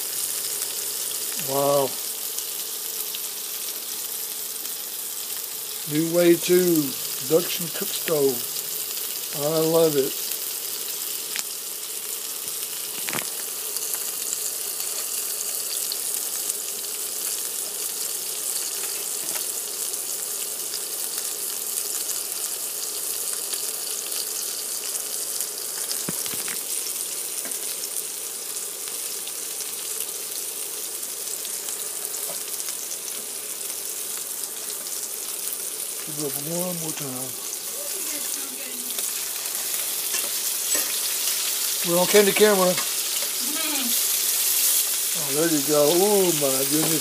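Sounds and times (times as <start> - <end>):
patties and onions sizzling in pan: 0.0 - 47.0.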